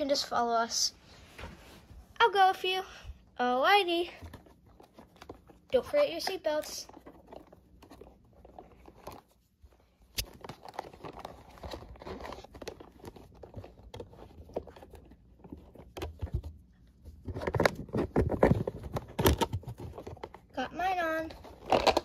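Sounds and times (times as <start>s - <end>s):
rustling of plush toys: 0.0s - 22.0s.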